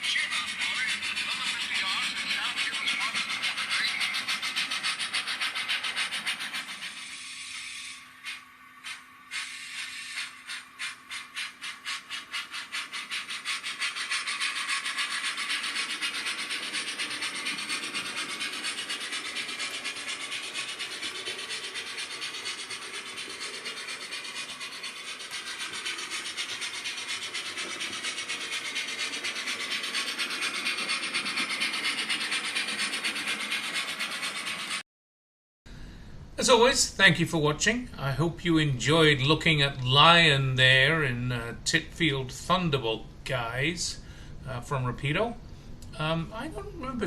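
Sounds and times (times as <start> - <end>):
model steam locomotive chuffing: 0.0 - 34.8, 36.5 - 47.0.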